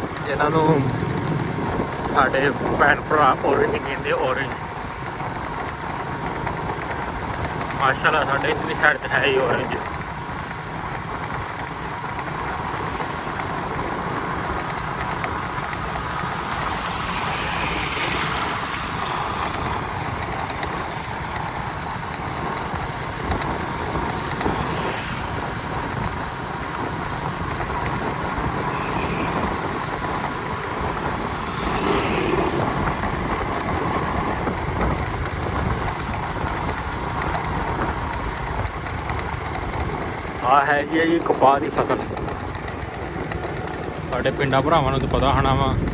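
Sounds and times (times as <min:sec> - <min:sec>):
moving vehicle road noise: 0:00.0 - 0:45.9.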